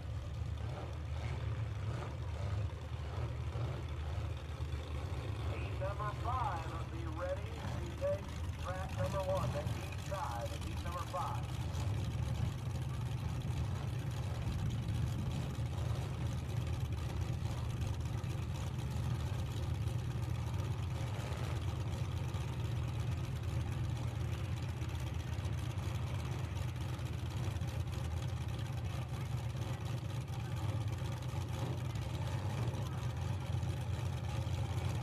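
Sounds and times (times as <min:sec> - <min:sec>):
car engines idling: 0:00.0 - 0:35.0.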